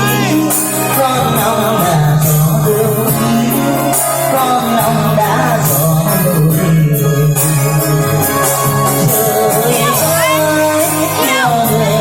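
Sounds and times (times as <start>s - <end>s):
loud music with steady beat: 0.0s - 12.0s
person singing: 0.0s - 12.0s.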